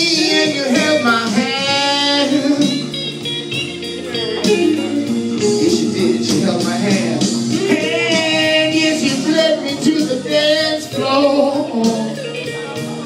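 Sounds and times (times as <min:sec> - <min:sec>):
person singing with vibrato: 0:00.0 - 0:03.2, 0:04.3 - 0:12.8
backing music: 0:00.0 - 0:13.0.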